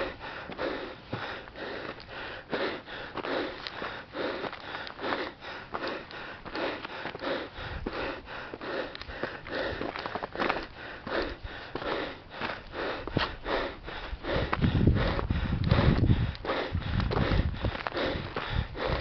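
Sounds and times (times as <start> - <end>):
man breathing heavily: 0.0 - 19.0.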